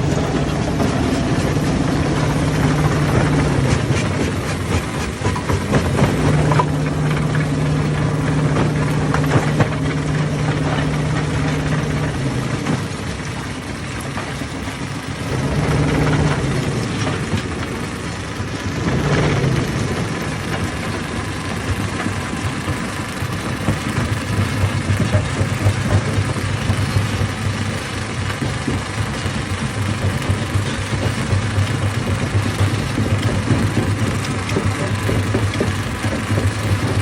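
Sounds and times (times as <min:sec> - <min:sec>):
stone crusher engine drone: 0:00.0 - 0:37.0.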